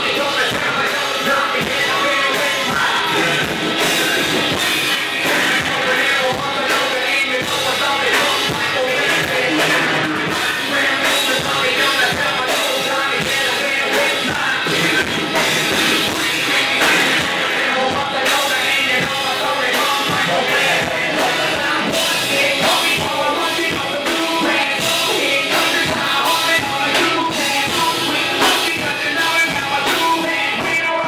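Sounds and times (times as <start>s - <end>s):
distorted electric guitar: 0.0s - 31.0s
drum kit beat: 0.0s - 31.0s
person singing: 0.0s - 31.0s.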